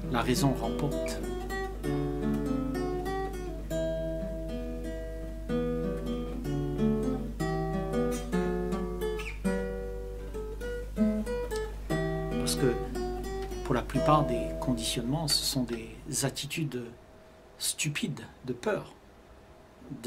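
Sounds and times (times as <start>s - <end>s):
acoustic guitar slow chords: 0.0s - 16.1s.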